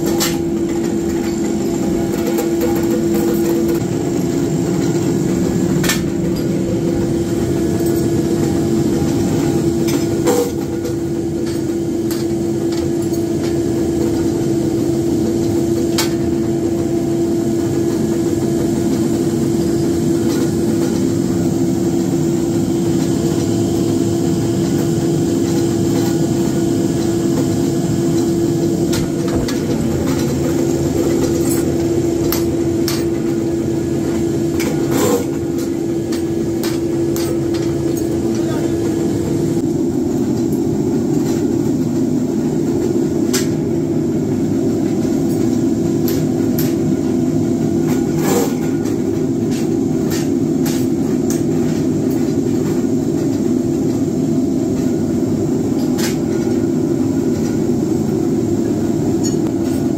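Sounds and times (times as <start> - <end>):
power press machine hum: 0.0 - 59.9.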